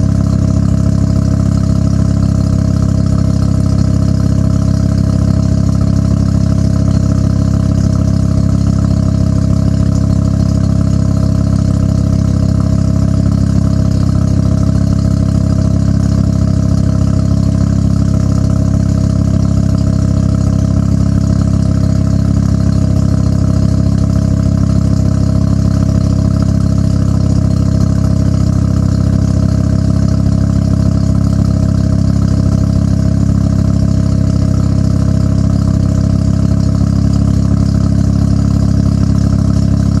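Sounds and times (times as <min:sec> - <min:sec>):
rotary car engine idling: 0:00.0 - 0:40.0.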